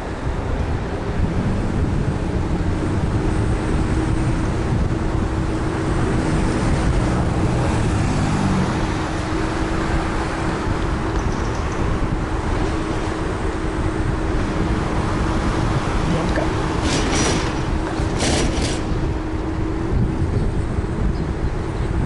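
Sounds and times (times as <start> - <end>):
street traffic: 0.0 - 22.0
wind rushing over microphone: 0.0 - 22.0.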